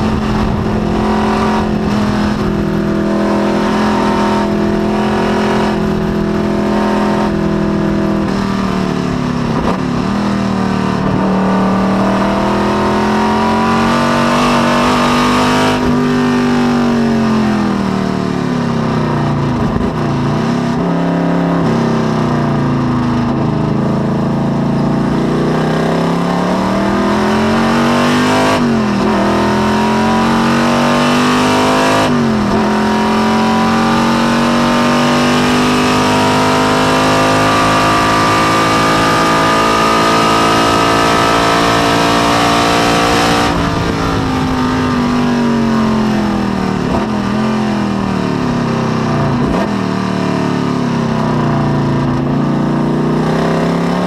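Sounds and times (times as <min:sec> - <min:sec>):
race car engine under load: 0:00.0 - 0:54.0.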